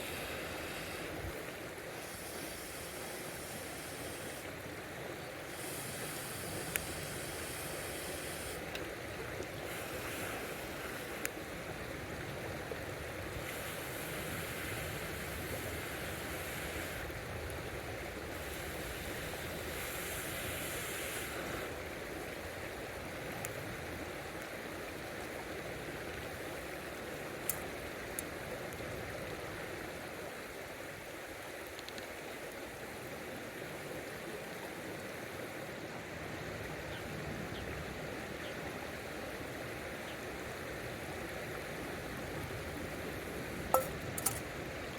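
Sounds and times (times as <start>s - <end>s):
river water flowing: 0.0s - 36.9s, 37.7s - 44.9s.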